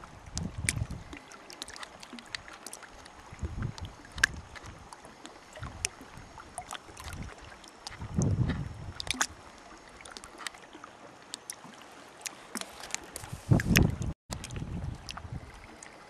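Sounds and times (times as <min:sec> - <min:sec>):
water lapping and dripping: 0:00.0 - 0:16.0
water swells against hull: 0:00.0 - 0:16.0.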